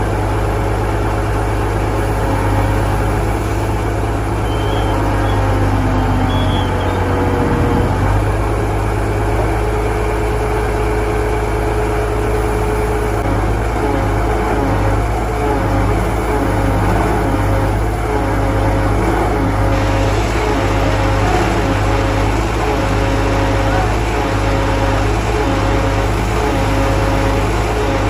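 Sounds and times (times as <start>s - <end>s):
machinery low hum: 0.0s - 28.0s.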